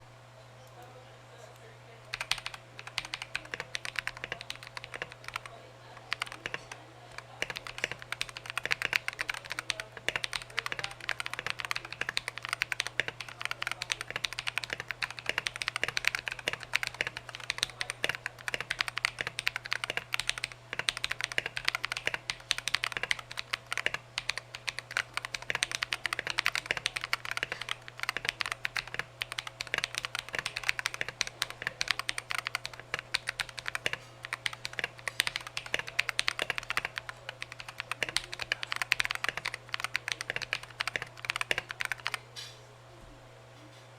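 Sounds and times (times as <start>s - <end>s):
low steady hum: 0.0s - 43.9s
mechanical keyboard typing: 2.1s - 42.3s.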